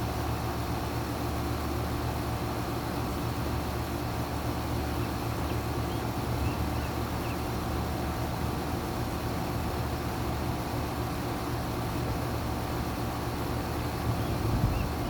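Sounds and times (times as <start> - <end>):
air conditioner running: 0.0 - 15.0.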